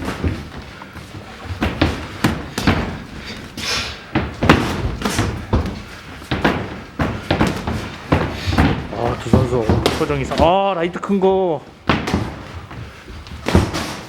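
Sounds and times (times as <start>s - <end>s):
boxing gloves punches thudding: 0.0s - 10.6s, 11.8s - 14.0s.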